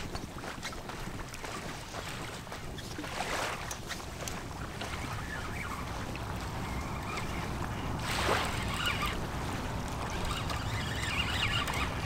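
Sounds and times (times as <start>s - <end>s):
small waves lapping: 0.0s - 12.0s
wind rumbling on microphone: 0.0s - 12.0s.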